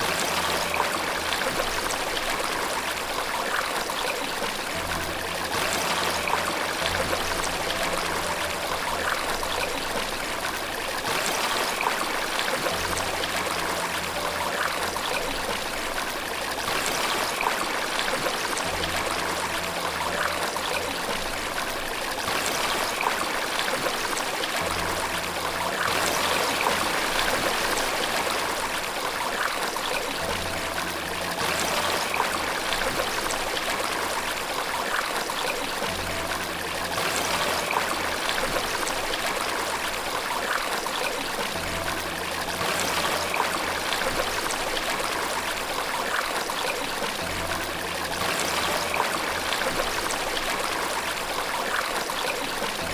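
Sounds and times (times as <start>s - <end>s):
rushing splashing water: 0.0s - 52.9s.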